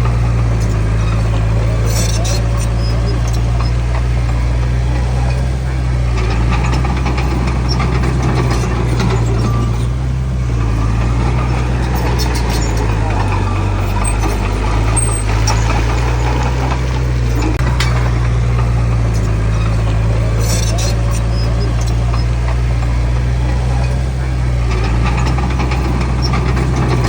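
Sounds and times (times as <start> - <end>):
heavy diesel engine drone: 0.0 - 27.0.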